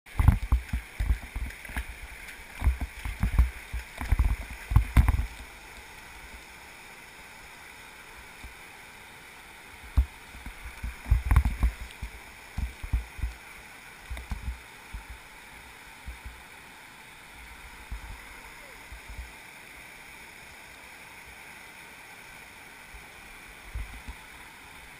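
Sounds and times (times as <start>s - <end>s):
river rapids rushing: 0.1s - 24.9s.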